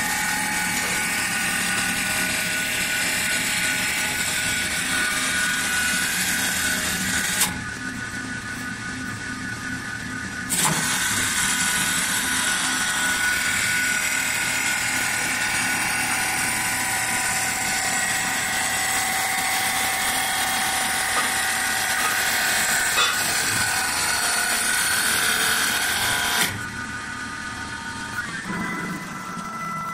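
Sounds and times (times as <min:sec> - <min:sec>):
quieter machine hum: 0:00.0 - 0:29.9
wood lathe cutting with whine: 0:00.0 - 0:29.9.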